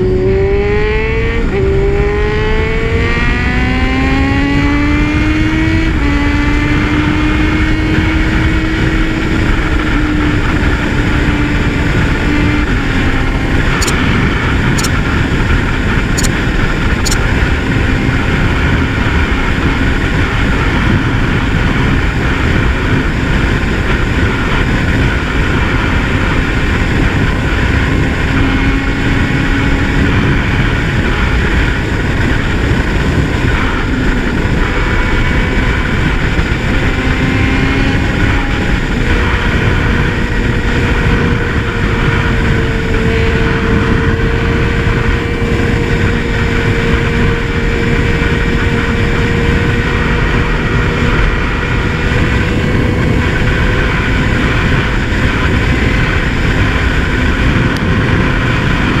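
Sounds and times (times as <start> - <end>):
motorcycle engine cruising: 0.0 - 59.0
wind rush over microphone: 0.0 - 59.0.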